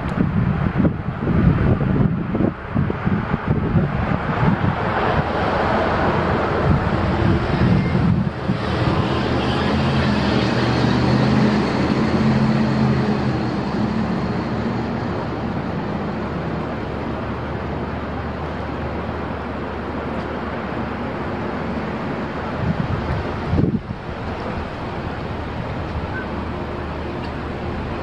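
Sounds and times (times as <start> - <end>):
traffic rushing: 0.0 - 28.0
wind on microphone: 0.0 - 28.0
vehicle engine humming: 1.0 - 28.0.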